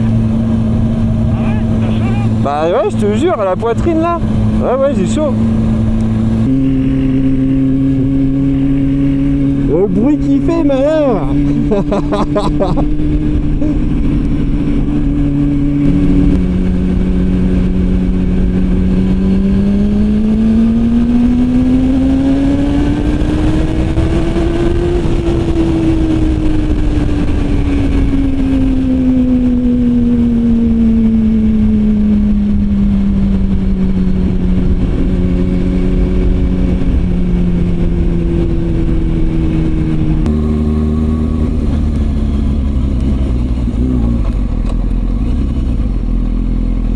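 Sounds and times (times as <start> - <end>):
wind noise: 0.0 - 46.1
motorcycle engine revving: 0.0 - 46.9.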